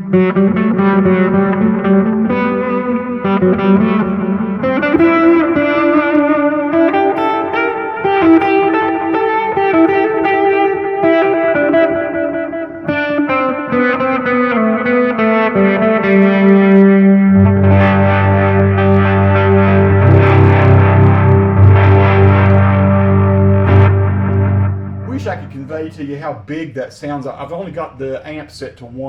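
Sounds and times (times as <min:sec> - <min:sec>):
electric guitar ringing chords: 0:00.0 - 0:26.1.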